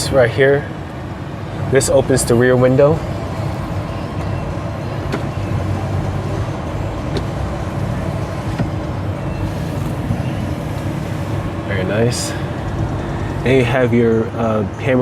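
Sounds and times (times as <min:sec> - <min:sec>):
car engine idling: 0:00.0 - 0:15.0
climate fan running: 0:00.0 - 0:15.0.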